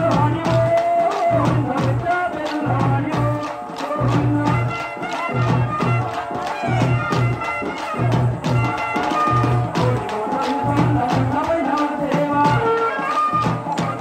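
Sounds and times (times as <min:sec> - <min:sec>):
person singing: 0:00.0 - 0:14.0
steady drum beat: 0:00.0 - 0:14.0.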